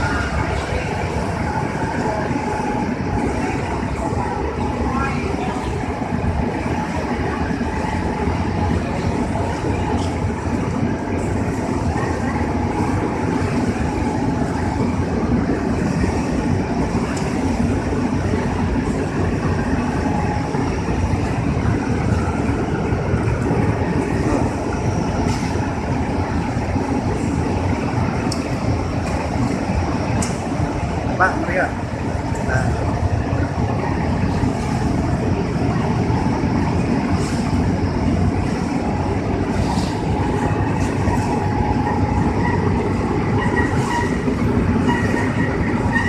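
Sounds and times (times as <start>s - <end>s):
drying machine rumbling and whirring: 0.0s - 46.0s.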